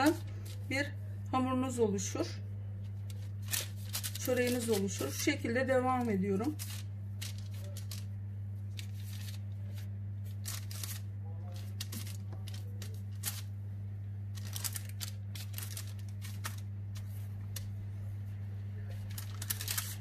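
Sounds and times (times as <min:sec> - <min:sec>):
baking paper crackling: 0:00.0 - 0:01.0, 0:02.0 - 0:20.0
low electrical hum: 0:00.0 - 0:20.0.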